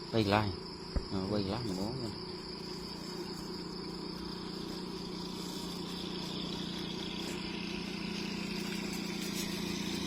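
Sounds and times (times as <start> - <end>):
insects chirring: 0.0 - 10.0
small engine humming: 0.0 - 10.0.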